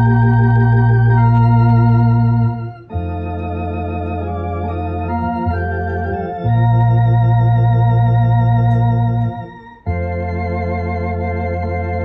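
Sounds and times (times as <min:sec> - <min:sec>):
organ keyboard playing a hymn: 0:00.0 - 0:12.0.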